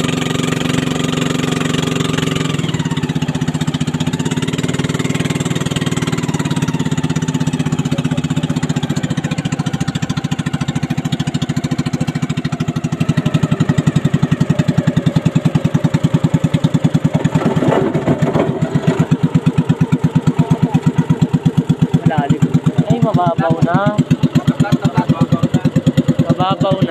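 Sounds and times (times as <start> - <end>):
motorboat engine running: 0.0 - 26.9.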